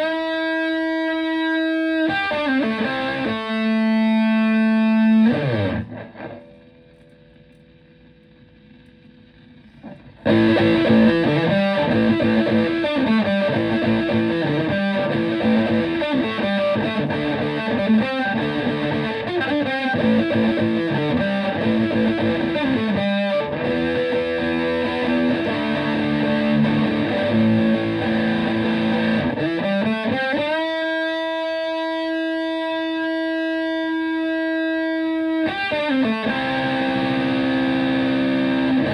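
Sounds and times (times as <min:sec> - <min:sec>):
fuzzed electric guitar: 0:00.0 - 0:38.9.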